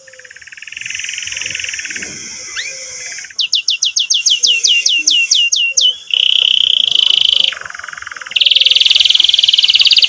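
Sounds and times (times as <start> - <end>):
canary singing: 0.0 - 10.0.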